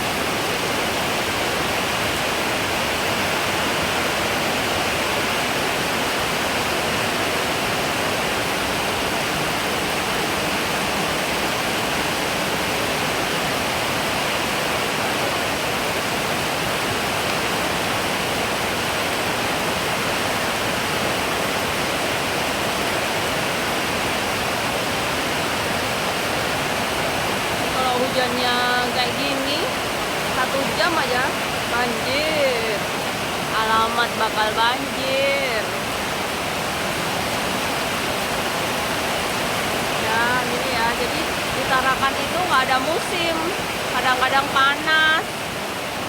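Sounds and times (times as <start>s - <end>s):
very heavy rain: 0.0s - 46.0s.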